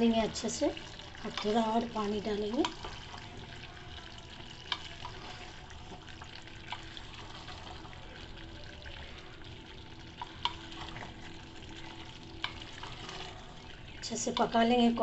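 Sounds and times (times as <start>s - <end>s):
meat and vegetables sizzling: 0.0s - 15.0s
wooden spatula stirring: 0.0s - 15.0s.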